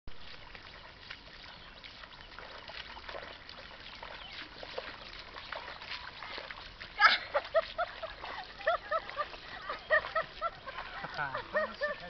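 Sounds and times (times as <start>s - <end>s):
feet wading through mud: 0.1s - 12.0s
muddy water sloshing and splashing: 0.1s - 12.0s.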